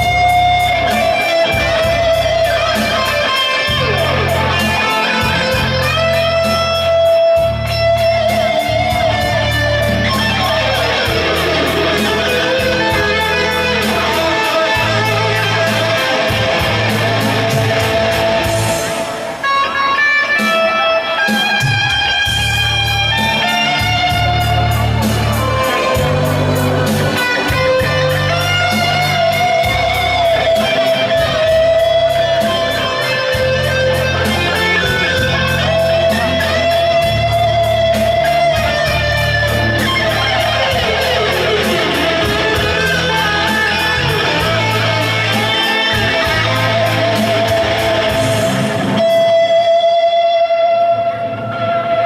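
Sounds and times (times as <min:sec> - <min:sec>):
bass guitar: 0:00.0 - 0:52.0
electric guitar lead: 0:00.0 - 0:52.0.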